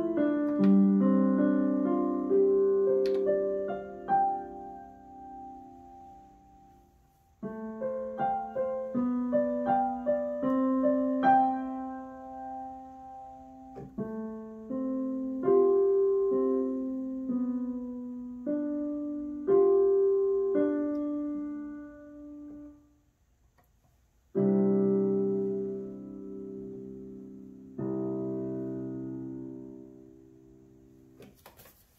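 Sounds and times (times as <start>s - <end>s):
digital piano playing slowly: 0.0s - 23.0s, 24.3s - 31.2s.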